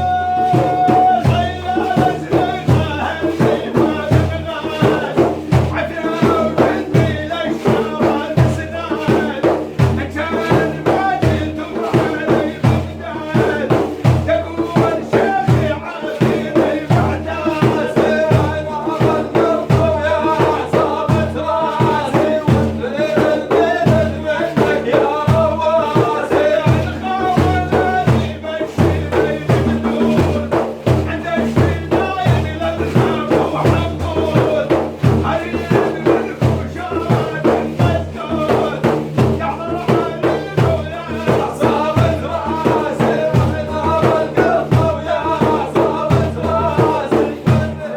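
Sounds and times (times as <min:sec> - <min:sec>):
drums beating a steady rhythm: 0:00.0 - 0:47.9
man chanting: 0:00.0 - 0:47.9.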